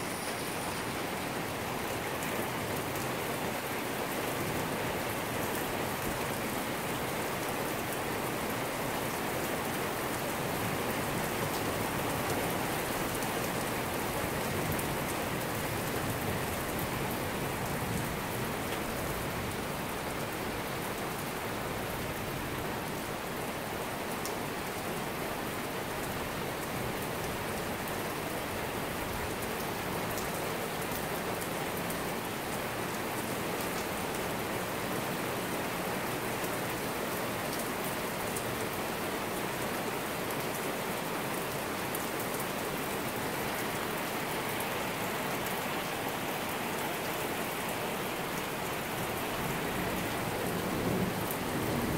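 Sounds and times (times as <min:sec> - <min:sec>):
heavy rain on street and cars: 0:00.0 - 0:51.9.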